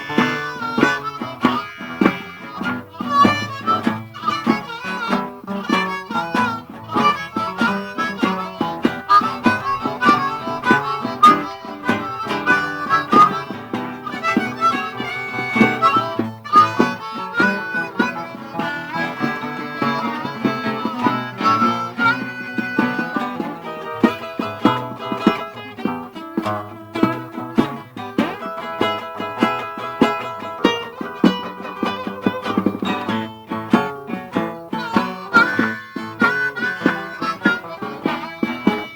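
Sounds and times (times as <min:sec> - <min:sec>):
guitar accompaniment: 0:00.0 - 0:38.9
harmonica: 0:00.0 - 0:38.9
steady beat: 0:00.0 - 0:38.9.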